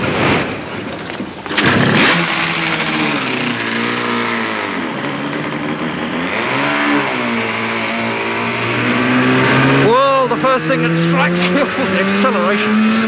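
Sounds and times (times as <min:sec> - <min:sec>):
racing engine starting and revving: 0:00.2 - 0:13.0.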